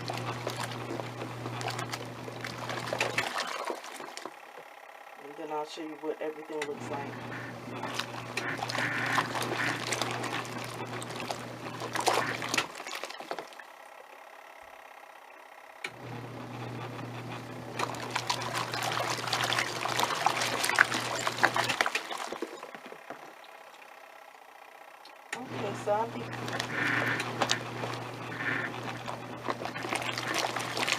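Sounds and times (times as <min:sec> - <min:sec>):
water sloshing and churning: 0:00.0 - 0:05.4, 0:06.6 - 0:14.3, 0:16.6 - 0:24.2, 0:25.2 - 0:30.9
washing machine motor hum: 0:00.0 - 0:30.9.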